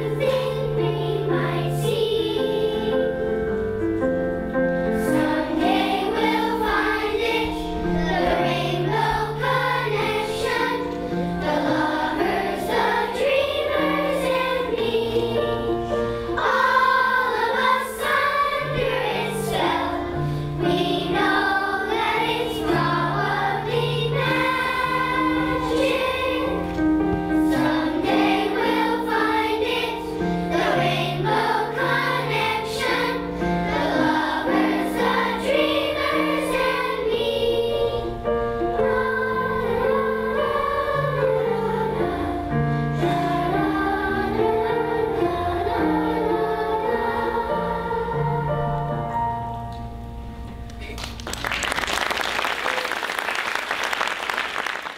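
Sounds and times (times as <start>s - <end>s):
children's choir singing: 0.0s - 49.4s.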